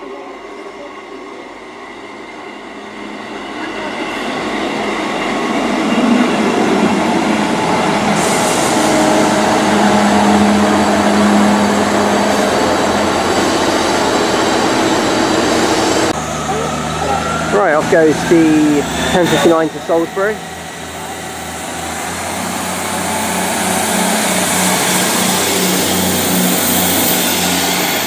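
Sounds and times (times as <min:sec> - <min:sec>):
diesel train engine: 0:00.0 - 0:28.0.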